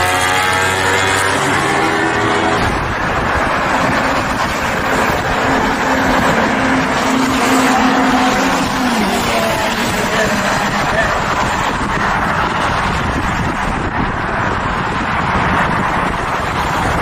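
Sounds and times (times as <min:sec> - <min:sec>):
motorcycle engine: 0:00.0 - 0:14.1
wind and road noise: 0:00.0 - 0:17.0.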